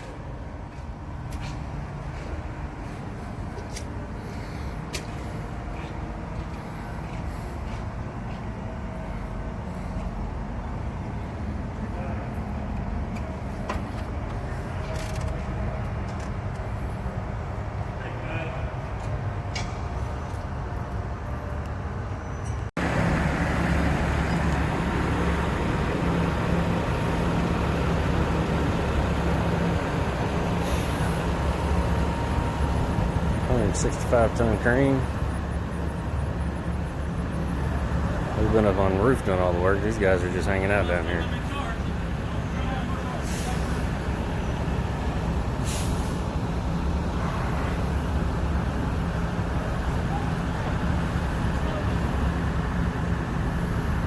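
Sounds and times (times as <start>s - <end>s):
large diesel engine droning: 0.0s - 54.0s.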